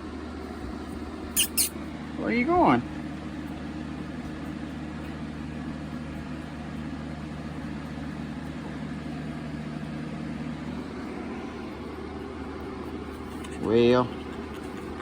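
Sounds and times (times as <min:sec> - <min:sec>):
box fan humming: 0:00.0 - 0:15.0.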